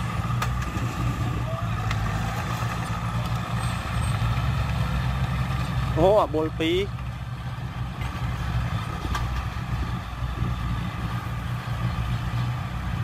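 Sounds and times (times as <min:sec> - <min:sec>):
diesel engines rumbling: 0:00.0 - 0:13.0.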